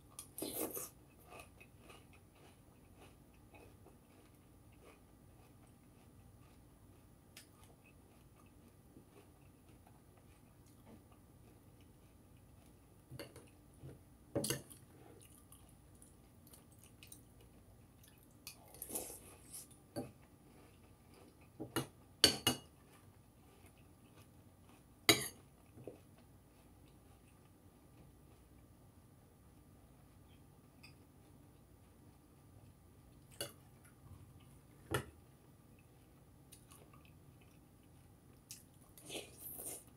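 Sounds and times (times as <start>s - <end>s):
chewing crunchy cereal: 0.1s - 13.9s, 14.6s - 21.6s, 22.7s - 28.8s, 31.0s - 39.9s.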